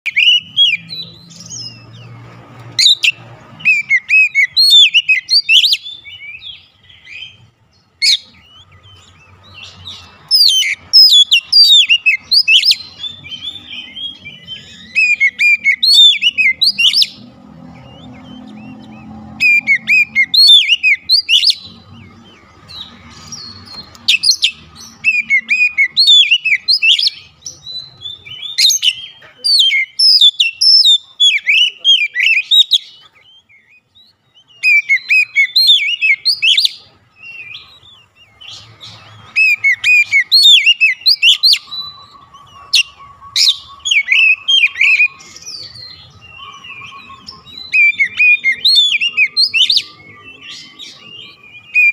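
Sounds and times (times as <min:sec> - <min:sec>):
bird singing whistled notes: 0:00.0 - 0:51.9.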